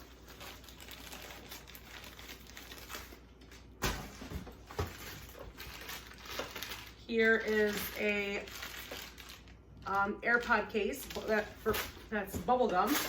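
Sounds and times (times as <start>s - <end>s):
packaging rustling: 0.0s - 9.7s, 10.9s - 12.1s.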